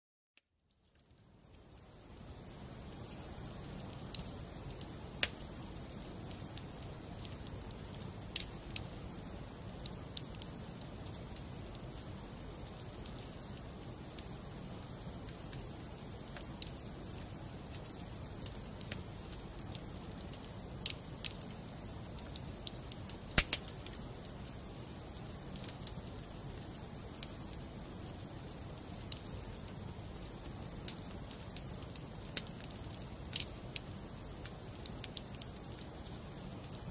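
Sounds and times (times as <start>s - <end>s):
burning logs crackling and popping: 0.6s - 36.9s
fire flames rumbling: 0.9s - 36.9s.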